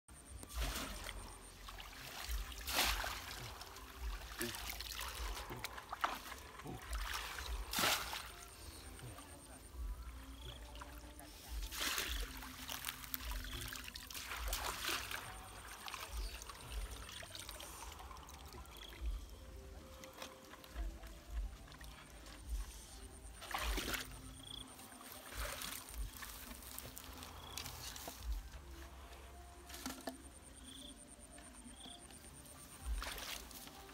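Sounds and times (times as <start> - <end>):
stream water splashing: 0.4 - 30.7, 31.7 - 33.9.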